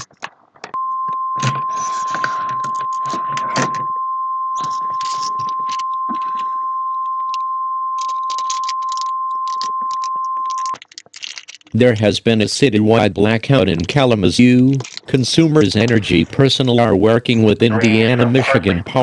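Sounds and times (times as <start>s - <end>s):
crackles and clicks: 0.0s - 19.0s.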